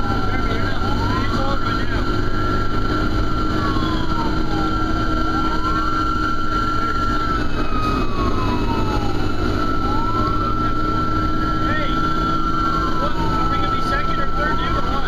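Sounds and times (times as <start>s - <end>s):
fire engine siren wailing: 0.0s - 15.0s
fire truck engine running: 0.0s - 15.0s
steady siren tone: 0.0s - 15.0s.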